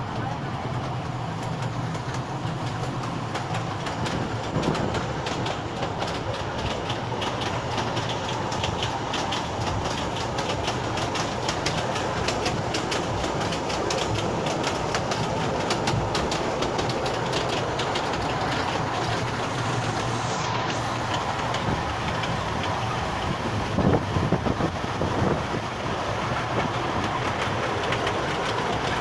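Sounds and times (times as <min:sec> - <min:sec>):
clicking and rattling of train car: 0:00.0 - 0:29.0
train wheels rumbling on rails: 0:00.0 - 0:29.0.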